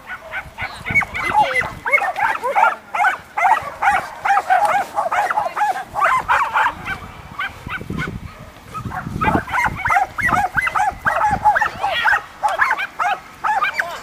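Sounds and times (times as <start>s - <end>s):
dog barking in high yaps: 0.0s - 14.0s.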